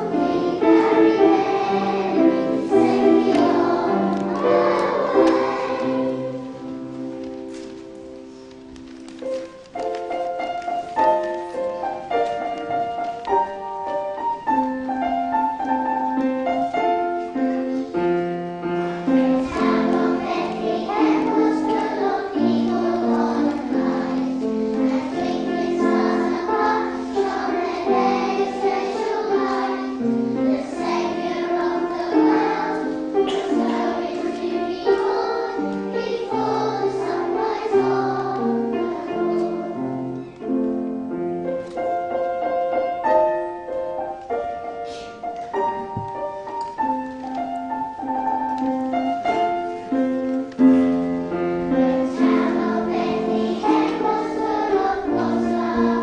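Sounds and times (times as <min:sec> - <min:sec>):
young children singing: 0:00.0 - 0:08.8, 0:09.4 - 0:40.9, 0:41.5 - 0:56.0
piano accompaniment: 0:00.0 - 0:56.0.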